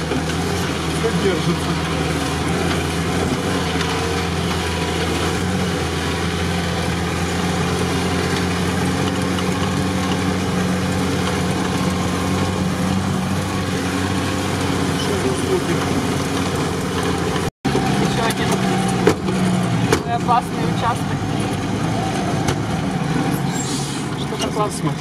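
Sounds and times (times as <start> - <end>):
car engine running: 0.0 - 25.0
road and body noise: 0.0 - 25.0.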